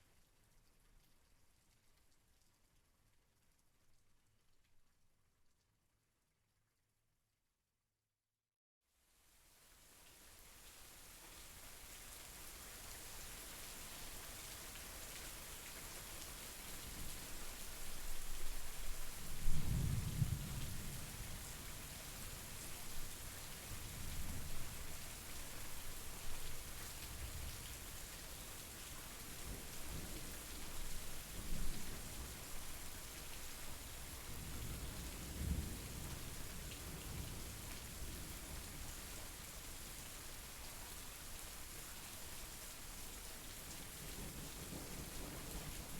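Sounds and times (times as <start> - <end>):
steady rain falling: 0.0 - 5.6, 9.1 - 45.9.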